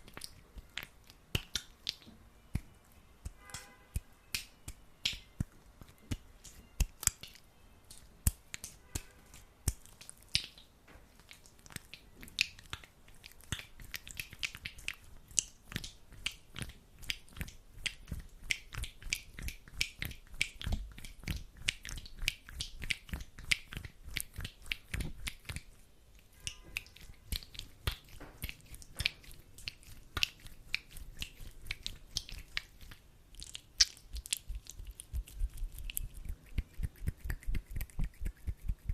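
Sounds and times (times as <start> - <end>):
hands rubbing sticky gel: 0.0 - 38.9.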